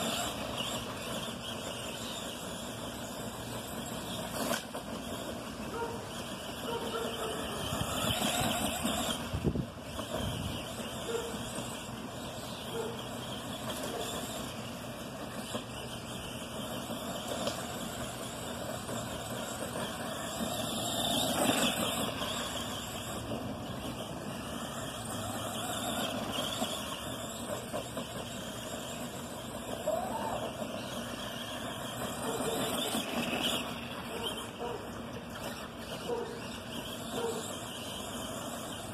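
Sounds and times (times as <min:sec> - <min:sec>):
electric motor of rc truck: 0:00.0 - 0:38.9
motor revving whine: 0:00.0 - 0:38.9.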